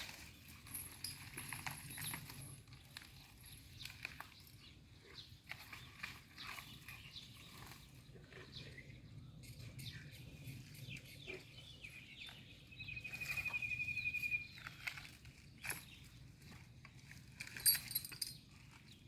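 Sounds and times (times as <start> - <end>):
birds chirping: 0.4 - 16.9.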